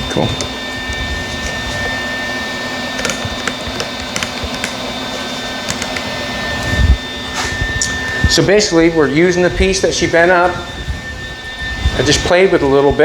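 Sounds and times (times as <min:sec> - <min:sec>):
shop machinery humming: 0:00.0 - 0:13.0
thin high whine: 0:00.0 - 0:13.0.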